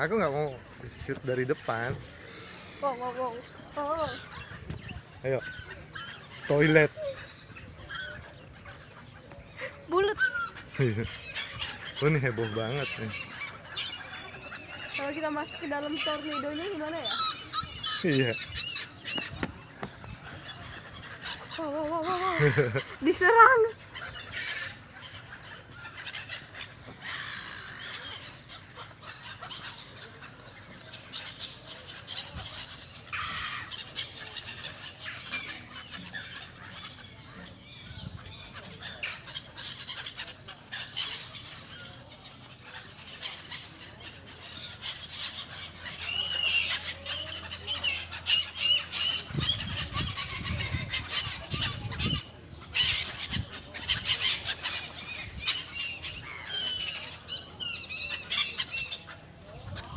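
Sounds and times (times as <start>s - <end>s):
flock of birds calling: 0.0s - 59.9s.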